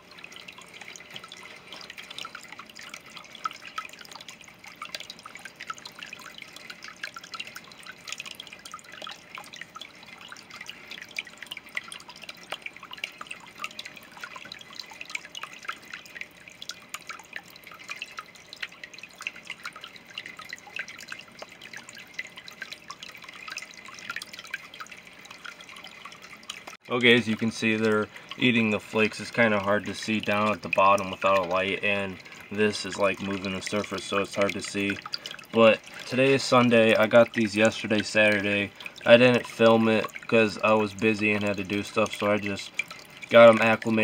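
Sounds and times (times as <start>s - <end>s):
water dripping into pond: 0.0s - 44.0s.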